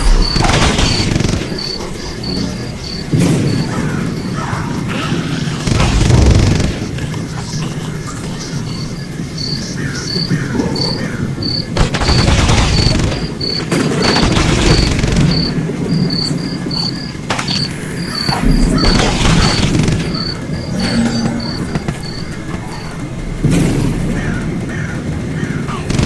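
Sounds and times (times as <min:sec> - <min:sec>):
bonfire crackling and rushing: 0:00.0 - 0:26.0
cricket chirping: 0:00.0 - 0:26.0.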